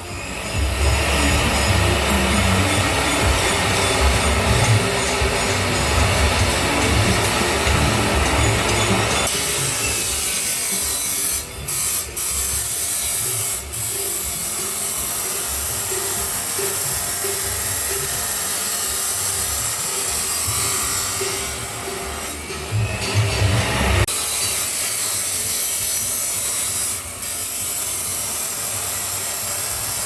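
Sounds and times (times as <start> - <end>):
grinder cutting steel pipe: 0.0 - 30.0.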